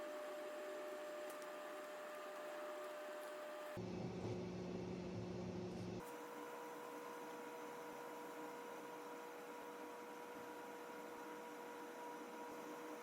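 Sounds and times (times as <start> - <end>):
machine hum with whine: 0.0 - 13.0.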